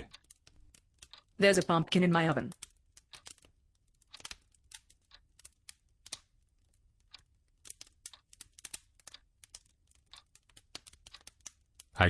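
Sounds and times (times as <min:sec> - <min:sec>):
faint irregular clicking: 0:00.0 - 0:12.0.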